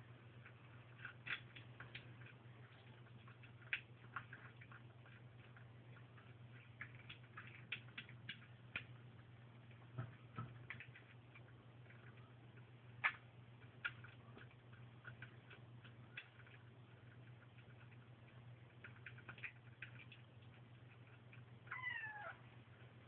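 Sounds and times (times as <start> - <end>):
kittens chewing and lapping: 0.0 - 23.0
steady low hum: 0.0 - 23.0.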